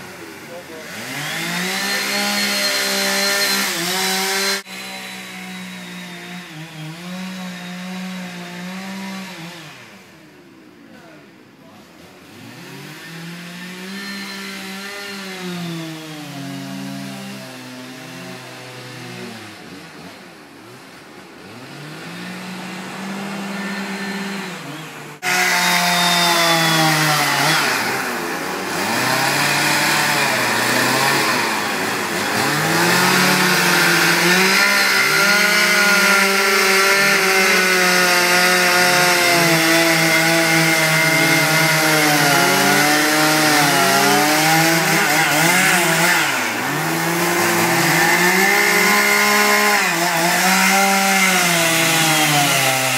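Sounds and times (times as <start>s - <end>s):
chainsaw engine carving wood: 0.0s - 52.9s.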